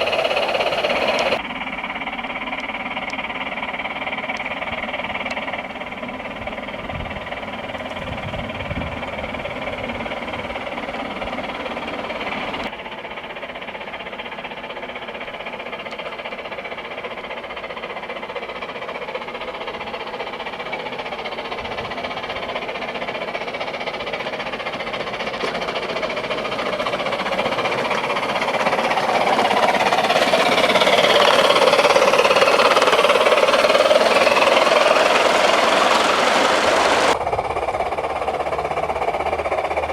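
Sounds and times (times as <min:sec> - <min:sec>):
model locomotive steam chuffing: 0:00.0 - 0:39.9
model train motor and wheels: 0:00.0 - 0:39.9.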